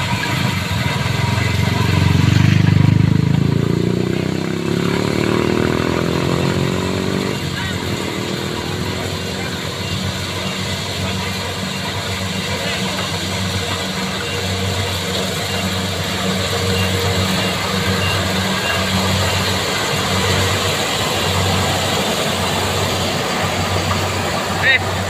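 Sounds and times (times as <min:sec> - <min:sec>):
combine harvester engine running: 0:00.0 - 0:25.0.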